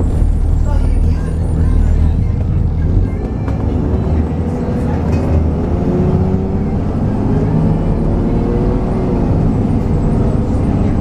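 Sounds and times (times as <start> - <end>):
bus engine from inside: 0.0 - 11.0.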